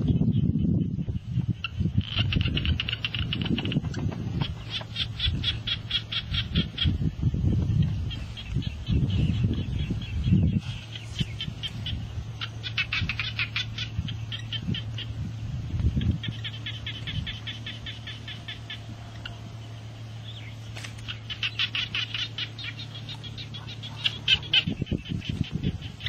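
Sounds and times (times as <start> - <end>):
low hum: 0.0 - 26.0
small animals chirping: 0.0 - 26.0.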